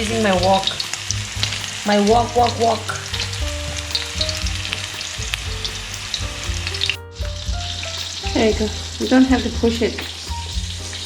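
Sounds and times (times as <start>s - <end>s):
meatballs sizzling in a wok: 0.0s - 11.0s.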